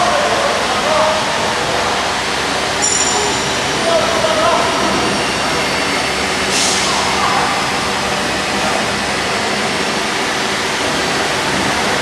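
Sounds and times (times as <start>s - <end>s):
industrial machinery noise: 0.0s - 12.0s.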